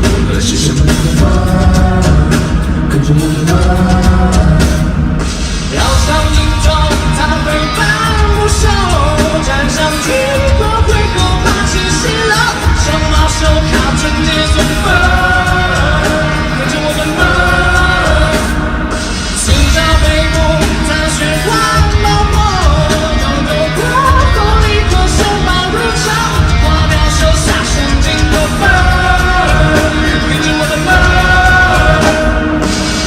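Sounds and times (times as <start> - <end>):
band with heavy bass and drums: 0.0 - 33.0
male singer: 0.0 - 33.0.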